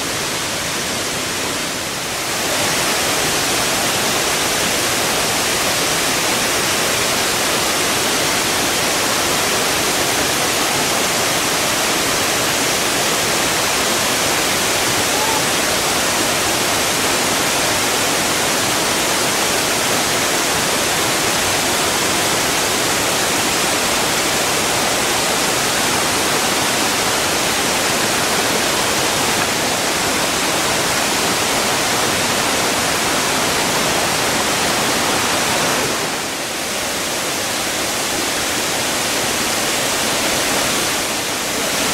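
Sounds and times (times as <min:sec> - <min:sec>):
waterfall cascading over rocks: 0:00.0 - 0:41.9.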